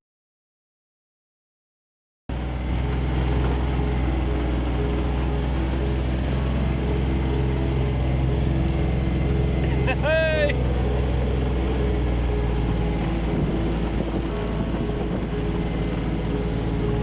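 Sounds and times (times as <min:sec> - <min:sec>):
road noise: 0:02.3 - 0:17.0
vehicle engine running: 0:02.3 - 0:17.0.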